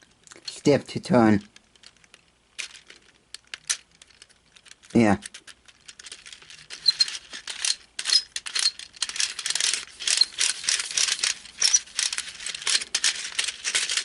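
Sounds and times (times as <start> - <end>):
plastic puzzle pieces clicking: 1.4 - 14.0.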